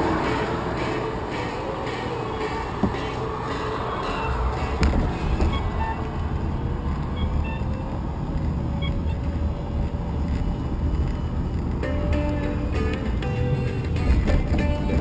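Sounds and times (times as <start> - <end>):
faint music: 0.0 - 15.0
road noise: 0.0 - 15.0
wind rumble: 0.0 - 15.0.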